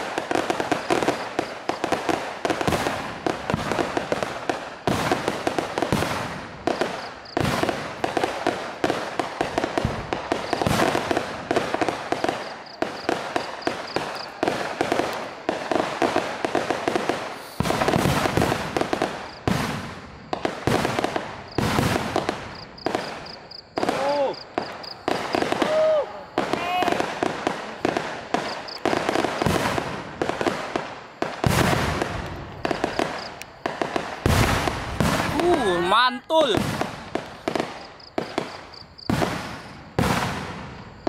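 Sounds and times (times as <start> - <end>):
firecrackers banging: 0.0 - 41.0.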